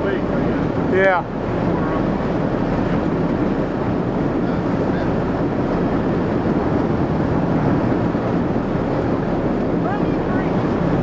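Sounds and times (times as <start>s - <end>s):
boat engine rumbling: 0.0s - 11.0s
water wash: 0.0s - 11.0s
wind buffeting microphone: 0.0s - 11.0s.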